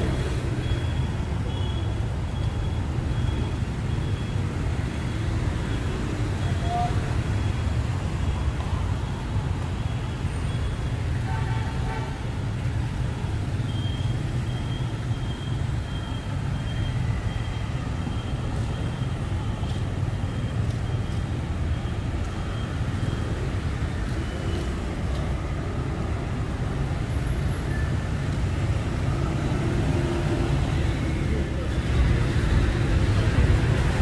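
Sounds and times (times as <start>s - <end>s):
city traffic rumble: 0.0s - 34.0s.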